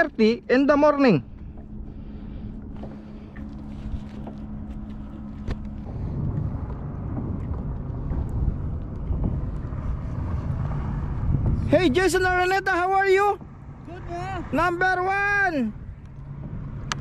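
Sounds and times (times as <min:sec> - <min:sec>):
boat motor running: 0:00.0 - 0:17.0
wind on microphone: 0:00.0 - 0:17.0.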